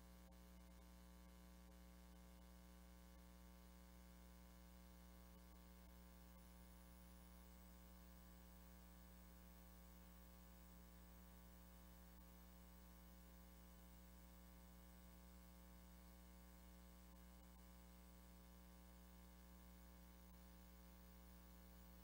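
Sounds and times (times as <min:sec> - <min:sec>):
faint hum and hiss: 0:00.0 - 0:22.0.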